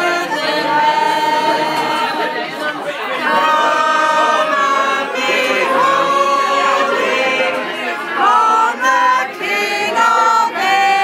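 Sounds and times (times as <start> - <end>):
group singing long notes: 0.0 - 11.0.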